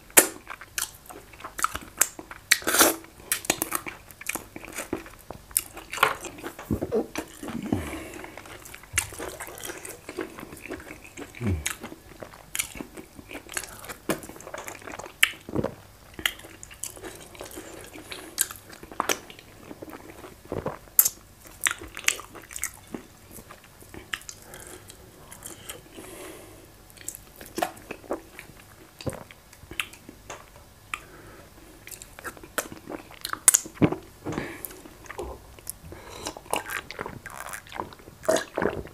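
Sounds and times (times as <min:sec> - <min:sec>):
person chewing with wet smacking: 0:00.1 - 0:26.0, 0:26.9 - 0:31.1, 0:31.8 - 0:38.9.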